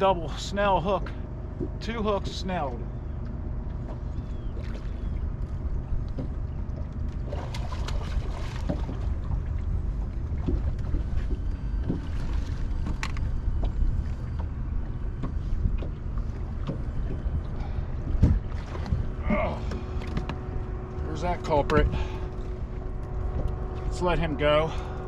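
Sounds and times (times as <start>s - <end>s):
wind and water rumble: 0.0s - 25.0s.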